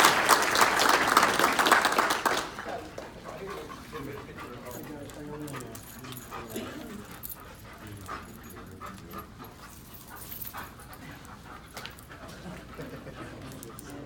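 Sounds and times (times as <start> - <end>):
dogs panting and whining: 2.7 - 14.0.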